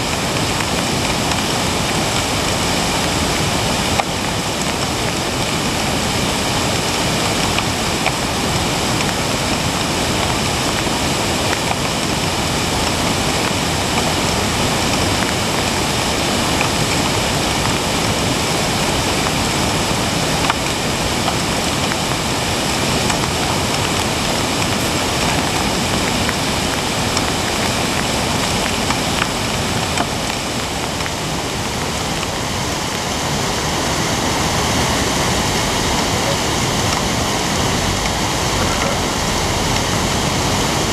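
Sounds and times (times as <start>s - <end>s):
flooded creek rushing over rocks: 0.0s - 40.9s.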